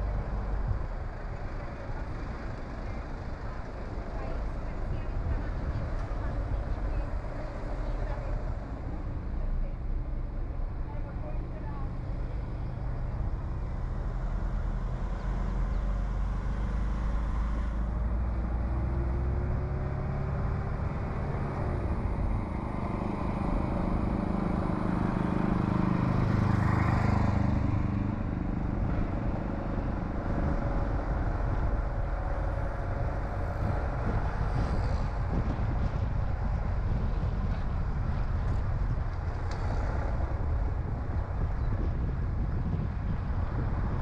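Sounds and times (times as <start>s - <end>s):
tyre and road noise: 0.0s - 44.0s.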